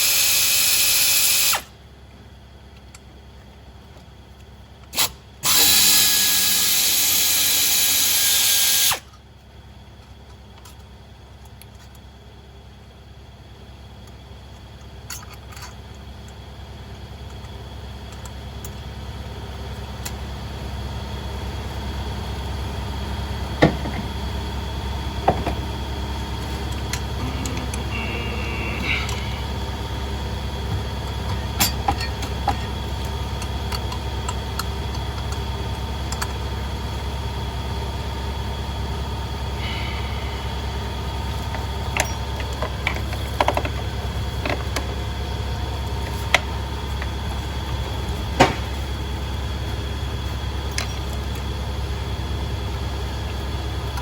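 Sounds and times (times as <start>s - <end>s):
low machine hum: 9.1s - 54.0s.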